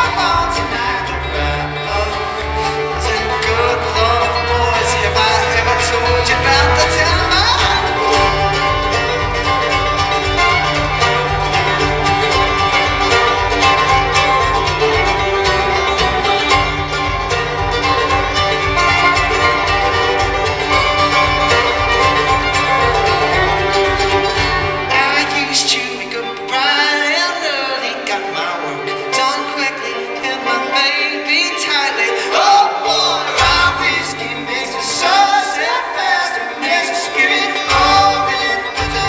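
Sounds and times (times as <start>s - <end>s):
upright bass: 0.0s - 26.5s, 32.3s - 35.4s, 36.3s - 39.0s
banjo: 0.0s - 39.0s
fiddle: 0.0s - 39.0s
guitar picking: 0.0s - 39.0s
mandolin: 0.0s - 39.0s.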